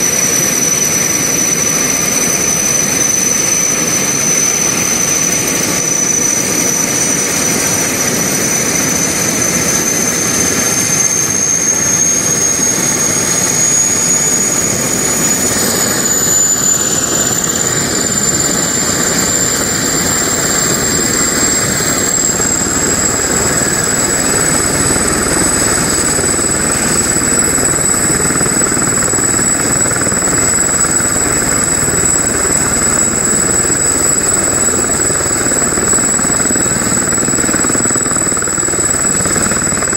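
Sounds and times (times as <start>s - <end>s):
helicopter turbine whine spooling up: 0.0s - 39.9s.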